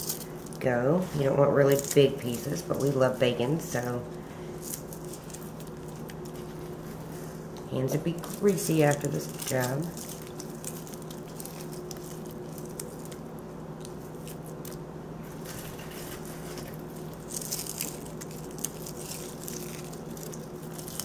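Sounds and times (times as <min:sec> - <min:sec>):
bacon crunching and crackling: 0:00.0 - 0:00.7, 0:01.6 - 0:21.0
steady low hum: 0:00.0 - 0:21.0.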